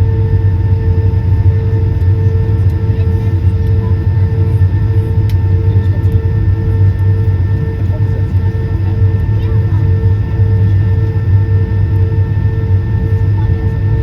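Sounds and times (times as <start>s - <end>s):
jet cabin engine rumble: 0.0s - 14.0s
steady engine tones: 0.0s - 14.0s.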